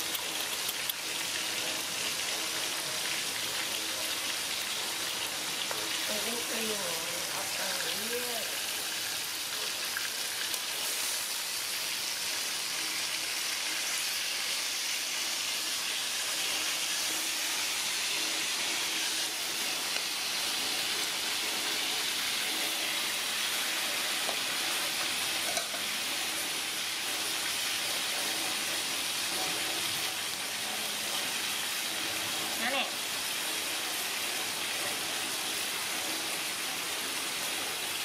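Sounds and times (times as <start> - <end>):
fish sizzling in hot oil: 0.0 - 38.0.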